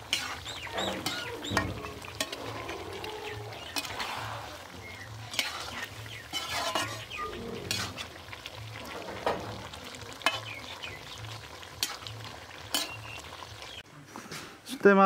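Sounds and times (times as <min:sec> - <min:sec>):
metal spatula scraping a wok: 0:00.0 - 0:10.6, 0:11.4 - 0:13.1
frying sizzle: 0:00.0 - 0:13.9.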